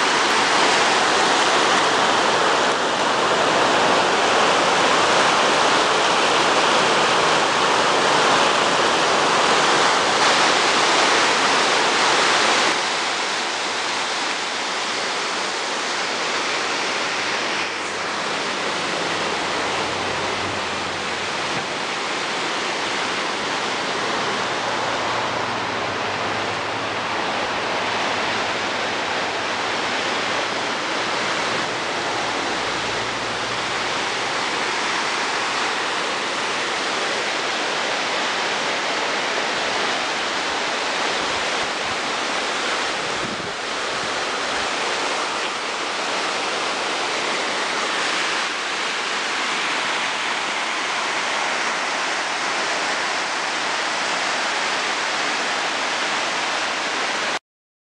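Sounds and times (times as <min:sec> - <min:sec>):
roar of rushing floodwater: 0:00.0 - 0:57.4.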